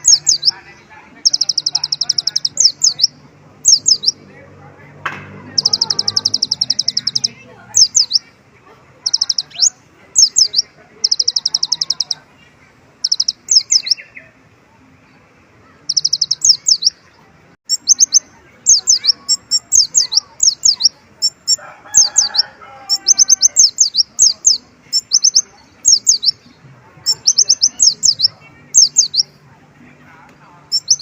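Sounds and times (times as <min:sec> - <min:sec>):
sunbird singing high chirps: 0:00.0 - 0:04.3, 0:05.5 - 0:08.3, 0:09.0 - 0:12.3, 0:13.0 - 0:14.4, 0:15.7 - 0:17.1, 0:17.7 - 0:29.4, 0:30.5 - 0:31.0.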